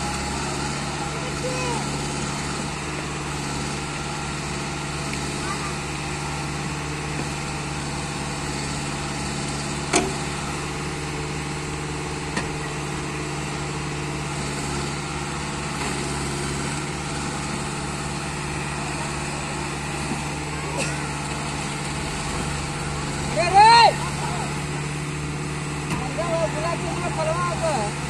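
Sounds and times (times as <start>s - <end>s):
backhoe engine running: 0.0s - 28.0s.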